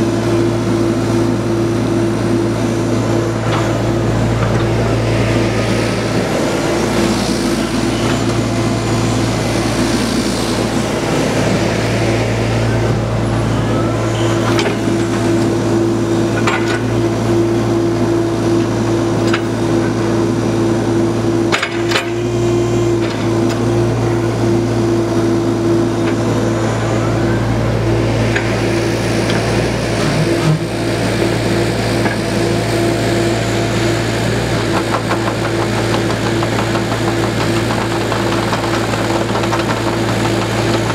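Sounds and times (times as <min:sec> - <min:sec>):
diesel engine running: 0:00.0 - 0:40.9
hydraulics working: 0:00.1 - 0:22.3, 0:22.9 - 0:40.9.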